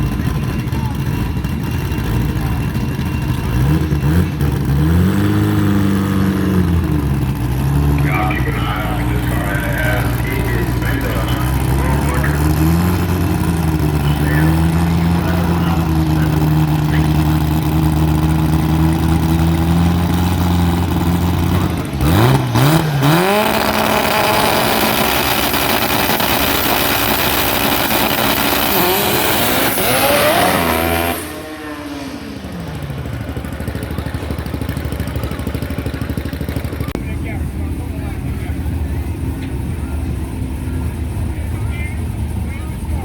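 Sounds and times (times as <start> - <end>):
drag car engine revving: 0.0 - 43.0.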